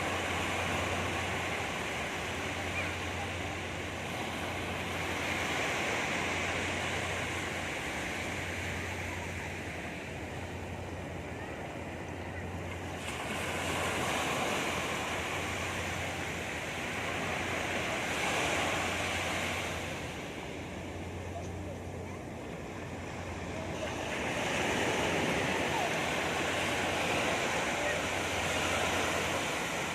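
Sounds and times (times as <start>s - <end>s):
sea waves breaking on beach: 0.0s - 10.3s, 12.6s - 21.4s, 22.4s - 29.9s.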